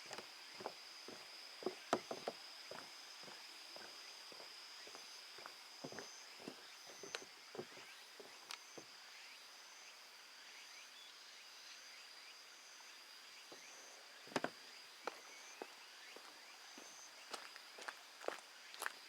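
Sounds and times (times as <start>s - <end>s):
insect calls: 0.0s - 19.0s
insects trilling: 0.0s - 19.0s.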